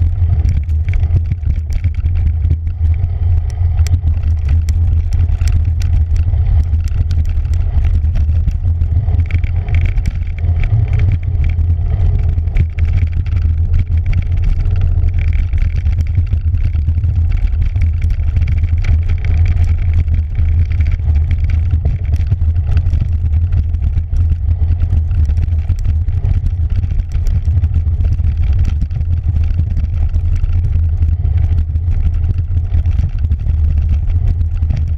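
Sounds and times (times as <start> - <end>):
bike clicks and rattles: 0.0 - 34.9
tyres on dirt trail: 0.0 - 34.9
wind rumbling on microphone: 0.0 - 34.9.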